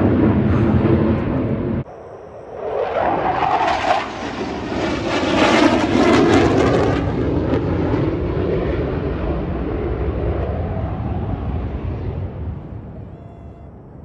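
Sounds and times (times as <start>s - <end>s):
fighter jet passing overhead: 0.0s - 14.0s.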